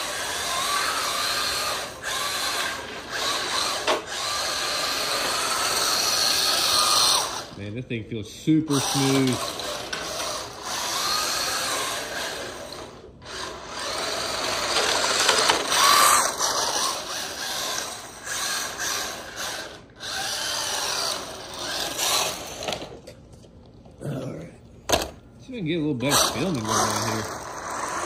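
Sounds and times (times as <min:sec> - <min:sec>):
small electric motor whining: 0:00.0 - 0:07.6, 0:08.6 - 0:23.0, 0:26.0 - 0:28.0.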